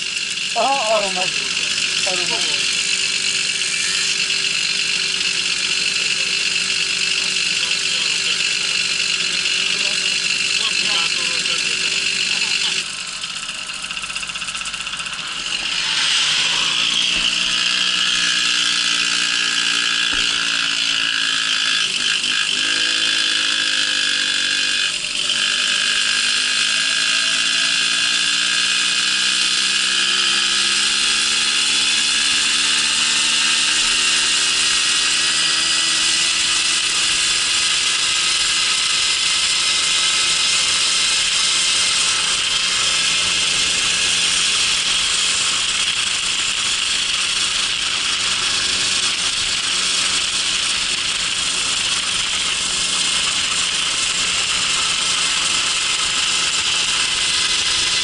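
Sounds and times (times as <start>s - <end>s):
moped engine buzzing: 0.0s - 58.0s.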